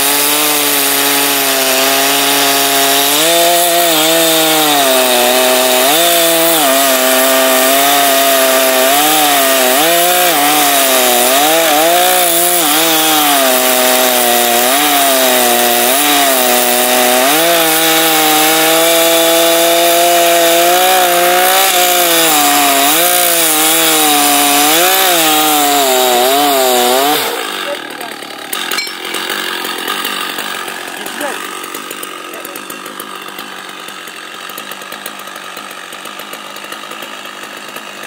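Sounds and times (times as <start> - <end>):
chainsaw cutting log: 0.0 - 38.0.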